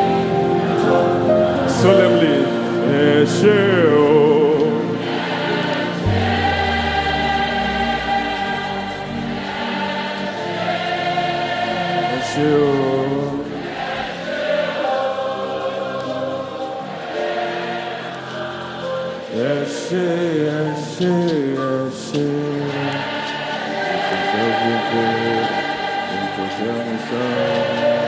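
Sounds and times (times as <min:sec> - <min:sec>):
choir singing gospel: 0:00.0 - 0:28.0.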